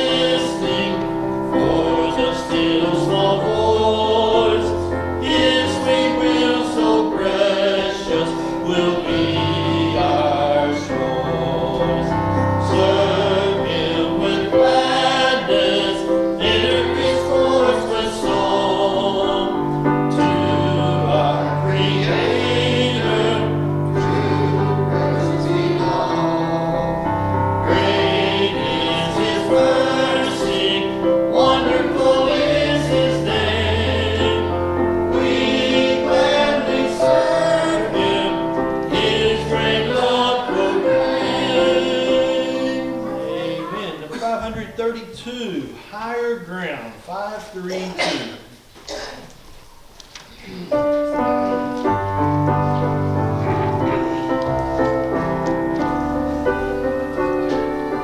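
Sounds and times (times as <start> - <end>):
instrumental accompaniment: 0.0 - 43.8, 50.8 - 58.0
congregation singing a hymn: 0.0 - 45.0, 50.7 - 58.0.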